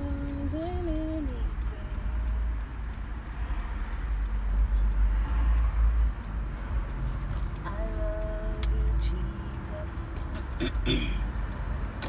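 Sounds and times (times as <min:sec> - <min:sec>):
car engine and tyres rumbling: 0:00.0 - 0:12.0
faint regular ticking: 0:00.0 - 0:12.0.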